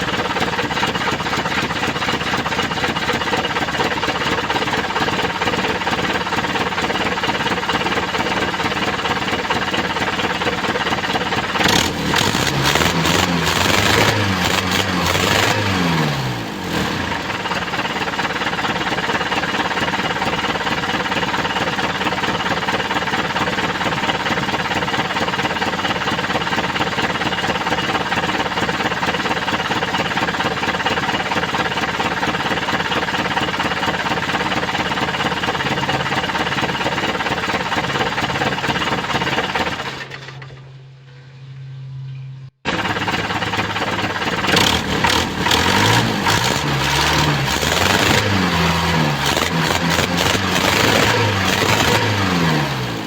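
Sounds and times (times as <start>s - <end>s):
diesel engine idling and revving: 0.0s - 40.4s, 42.6s - 53.0s.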